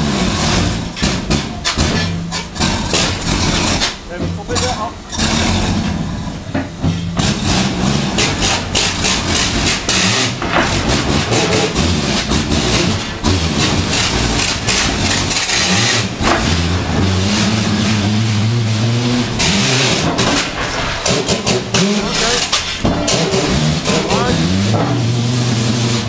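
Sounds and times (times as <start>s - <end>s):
air motors droning: 0.0s - 26.0s
rock and steel clattering: 0.0s - 26.0s.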